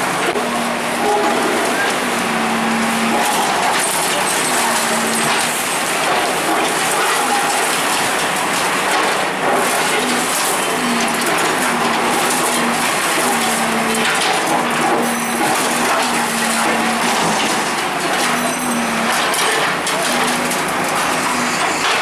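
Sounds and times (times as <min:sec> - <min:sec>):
bulldozer machinery noise: 0:00.0 - 0:22.0.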